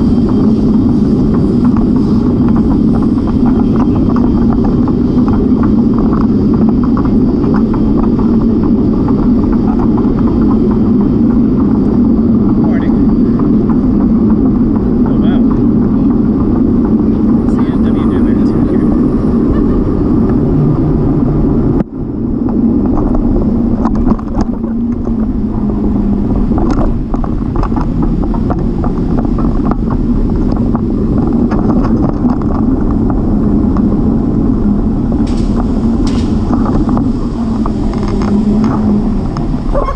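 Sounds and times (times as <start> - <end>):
bicycle tyre noise: 0.0 - 39.9
wind rumble: 0.0 - 39.9.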